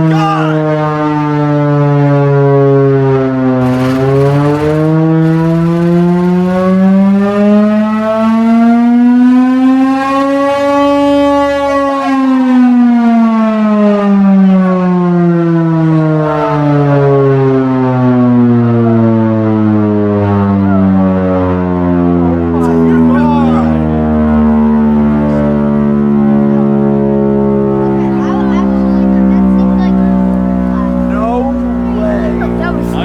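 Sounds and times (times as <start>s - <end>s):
air raid siren winding: 0.0s - 14.3s, 18.2s - 33.0s.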